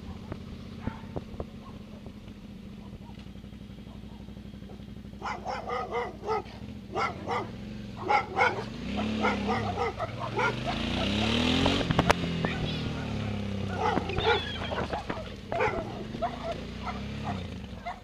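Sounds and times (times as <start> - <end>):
small dog barking: 0.0 - 2.1, 2.8 - 3.2, 3.8 - 11.4, 12.4 - 18.0
motorcycle engine: 0.0 - 18.0.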